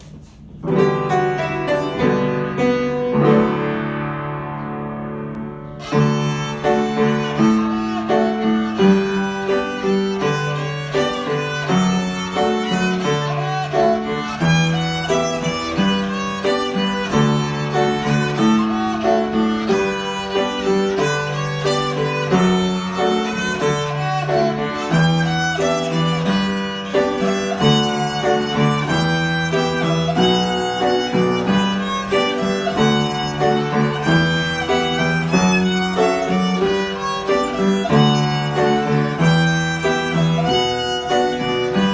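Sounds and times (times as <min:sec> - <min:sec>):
violin folk melody: 0:05.3 - 0:41.9.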